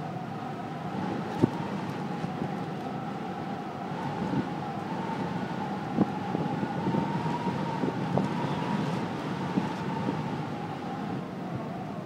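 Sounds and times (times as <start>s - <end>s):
wind howling and whistling: 0.0s - 12.0s.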